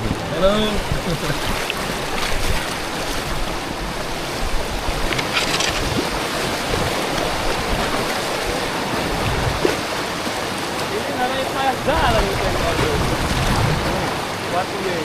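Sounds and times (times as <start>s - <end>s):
wind on microphone: 0.0s - 10.2s, 11.5s - 14.5s
water splash: 0.0s - 14.6s
river current rushing: 0.0s - 15.0s.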